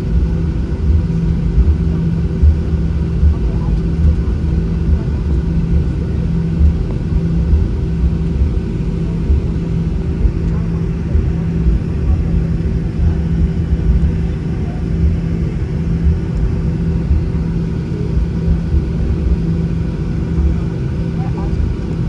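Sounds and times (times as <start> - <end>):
aircraft engines idling in cabin: 0.0 - 22.0.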